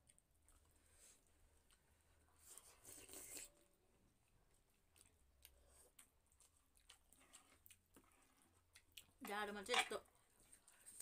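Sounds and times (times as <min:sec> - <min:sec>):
quiet chewing: 0:00.0 - 0:11.0.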